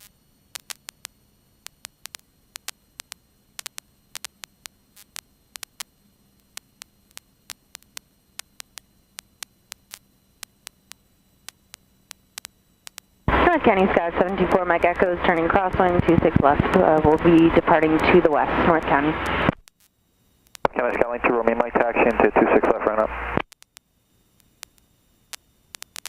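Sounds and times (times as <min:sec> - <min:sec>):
faint steady hum: 0:00.0 - 0:26.0
radio static clicks and crackles: 0:00.0 - 0:26.0.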